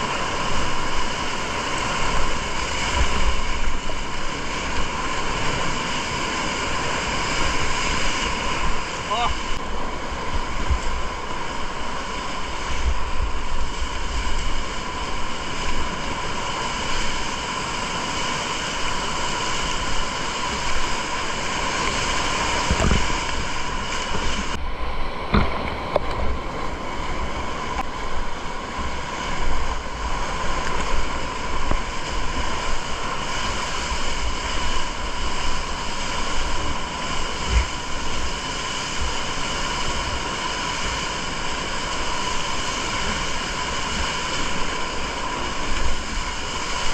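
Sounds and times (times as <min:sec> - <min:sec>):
whitewater rushing and splashing: 0:00.0 - 0:46.9
wind buffeting microphone: 0:00.0 - 0:46.9.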